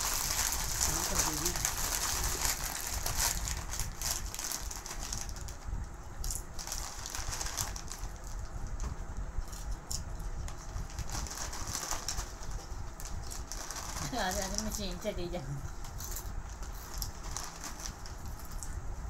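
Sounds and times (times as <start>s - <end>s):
foil crisp packets crinkling: 0.0s - 8.5s, 10.5s - 15.1s, 15.8s - 18.6s
low steady hum: 0.0s - 19.0s.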